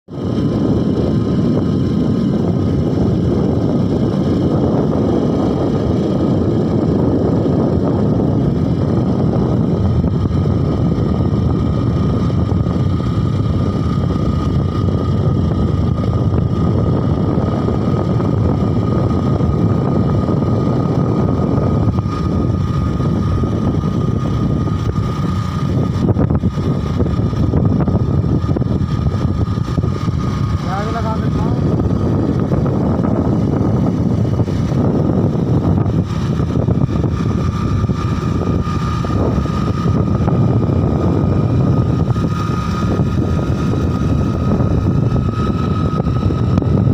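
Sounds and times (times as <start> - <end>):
motorcycle engine cruising: 0.1 - 46.9
thin steady whine: 0.1 - 46.9
wind rush on microphone: 0.1 - 46.9.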